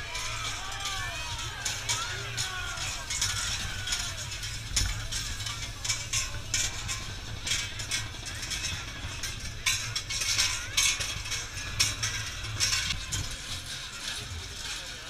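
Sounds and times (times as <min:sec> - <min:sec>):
large bells clanging: 0:00.0 - 0:15.0
low steady rumble: 0:00.0 - 0:15.0.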